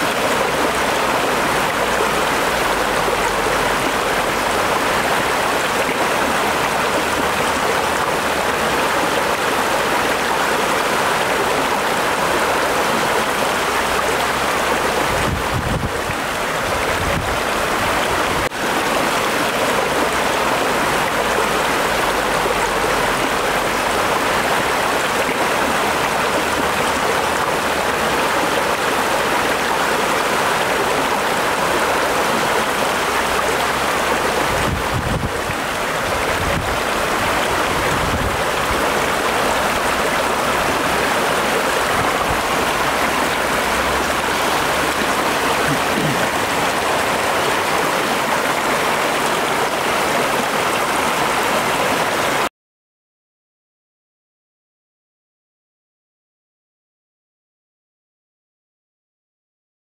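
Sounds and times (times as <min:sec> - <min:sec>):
waterfall rushing and splashing: 0:00.0 - 0:52.5.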